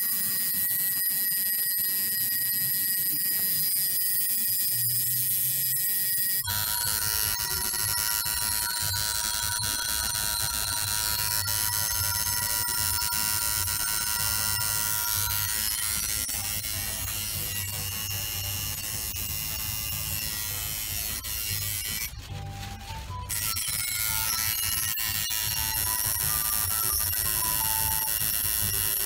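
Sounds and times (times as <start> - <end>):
tattoo machine buzzing: 0.0 - 22.1, 23.3 - 29.0.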